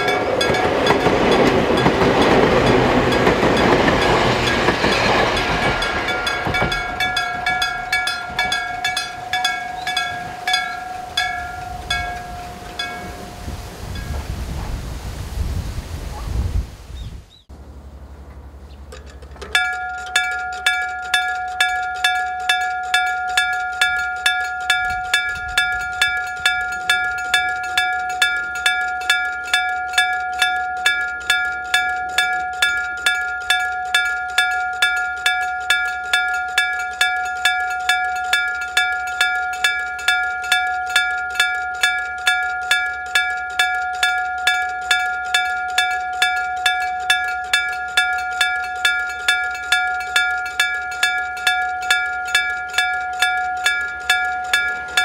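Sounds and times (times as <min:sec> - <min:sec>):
level crossing bell ringing: 0:00.0 - 0:14.2, 0:19.0 - 0:55.0.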